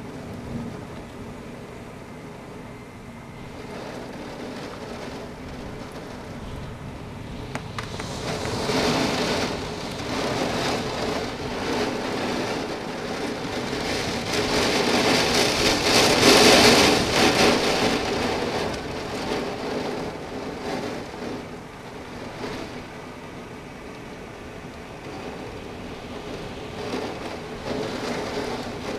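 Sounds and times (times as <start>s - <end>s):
heavy rain pouring: 0.0s - 28.9s.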